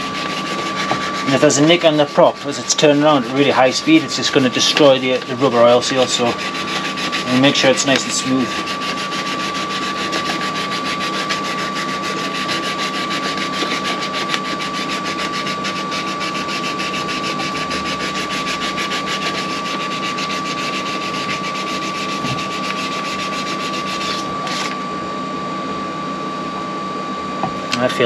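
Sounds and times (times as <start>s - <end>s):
machine hum and hiss: 0.0s - 28.0s.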